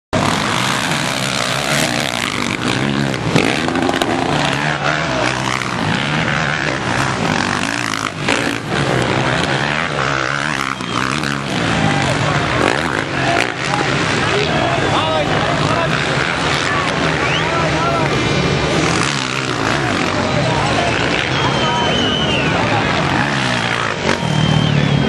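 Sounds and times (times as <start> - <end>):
motocross bike engines revving: 0.2 - 25.0.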